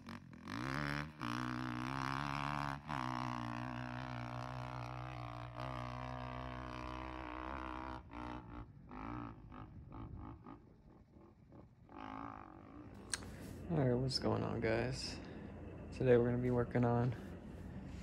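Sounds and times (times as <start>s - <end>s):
off-road motorcycle engine revving: 0.0s - 18.0s.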